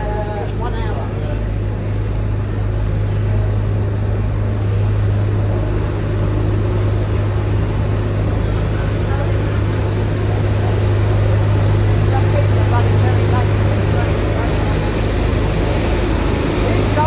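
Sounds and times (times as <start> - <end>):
diesel locomotive engine idling: 0.0 - 17.0.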